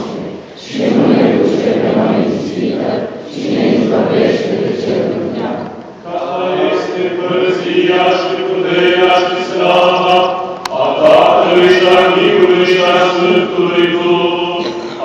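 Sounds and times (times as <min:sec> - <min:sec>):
liturgical chanting: 0:00.0 - 0:15.0.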